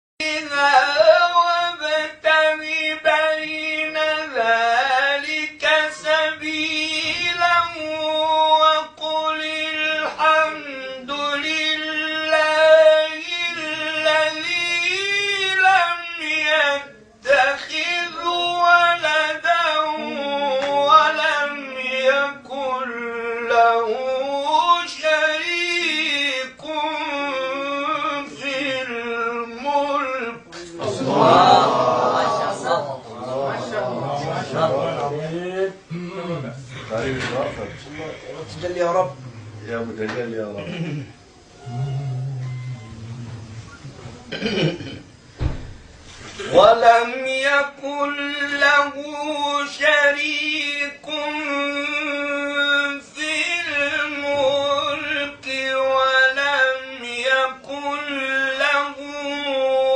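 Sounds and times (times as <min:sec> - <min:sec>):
man chanting religious recitation: 0:00.2 - 0:43.7, 0:46.3 - 0:59.9.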